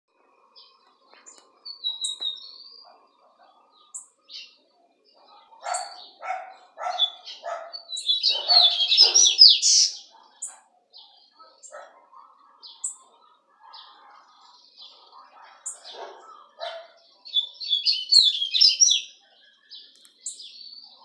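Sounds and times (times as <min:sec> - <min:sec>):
songbird chirping and warbling: 0:00.1 - 0:21.0.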